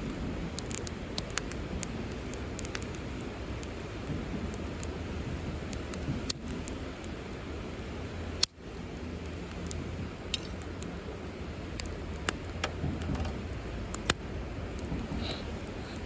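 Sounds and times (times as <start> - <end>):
campfire crackling and popping: 0.0 - 16.0
low rumble of burning fire: 0.0 - 16.0.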